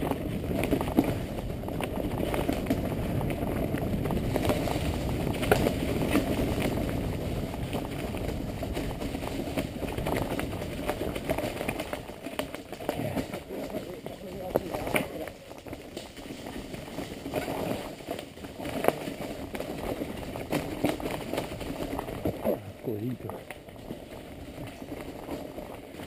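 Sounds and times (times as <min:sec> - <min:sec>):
bike knocks and rattles: 0:00.0 - 0:22.4
bike tyres rolling over dirt: 0:00.0 - 0:26.0.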